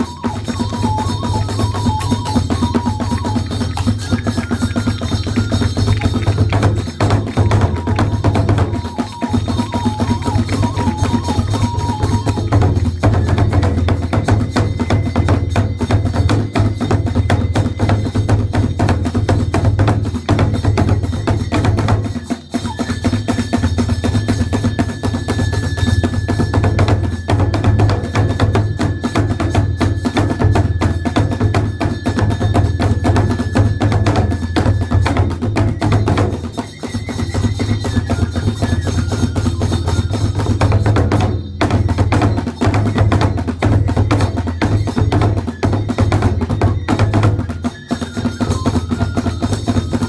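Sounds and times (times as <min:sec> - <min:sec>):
fast taiko drumming: 0:00.0 - 0:50.0
percussion: 0:00.0 - 0:50.0.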